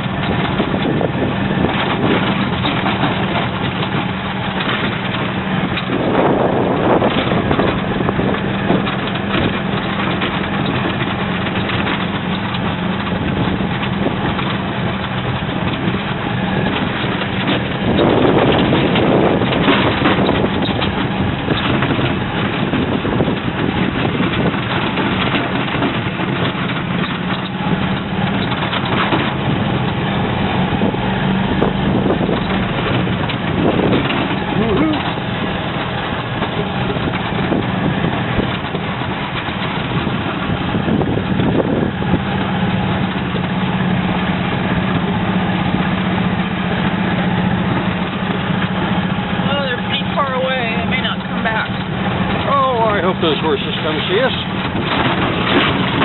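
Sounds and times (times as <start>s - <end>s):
road noise: 0.0s - 56.0s
rushing wind: 0.0s - 56.0s
utility cart drive hum: 0.0s - 56.0s.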